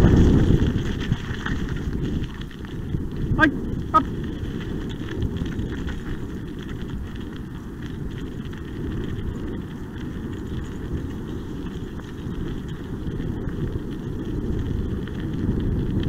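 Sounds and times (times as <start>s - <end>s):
tyres rolling on gravel: 0.0s - 16.0s
wind on microphone: 0.0s - 16.0s.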